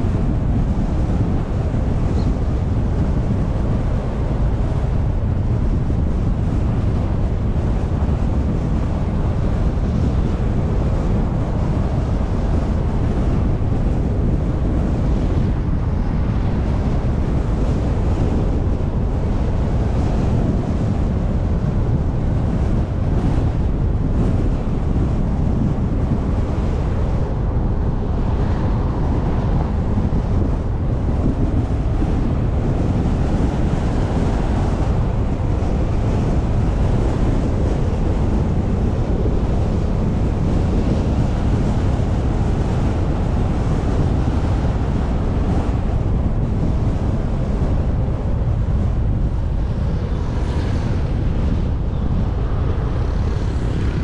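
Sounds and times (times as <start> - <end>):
road and tyre rumble: 0.0 - 54.0
wind buffeting microphone: 0.0 - 54.0.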